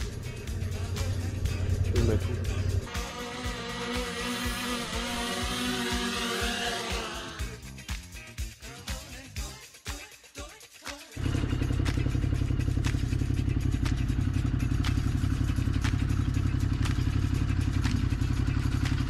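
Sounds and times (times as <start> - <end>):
motorcycle engine running: 0.0 - 7.6, 11.2 - 19.0
music: 0.0 - 19.0.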